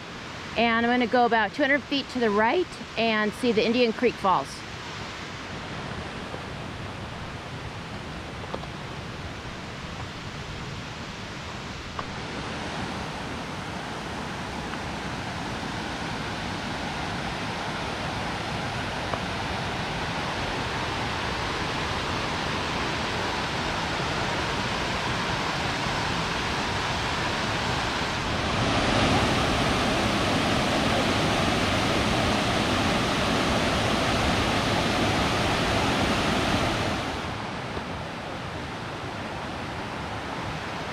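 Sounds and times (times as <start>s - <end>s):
waterfall rushing: 1.7s - 40.9s.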